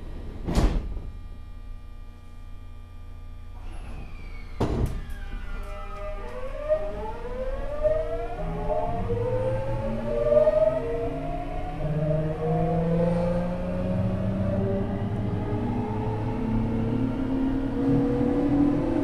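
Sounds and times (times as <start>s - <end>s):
low running hum: 0.0s - 19.0s
electric train motors whining: 3.5s - 19.0s.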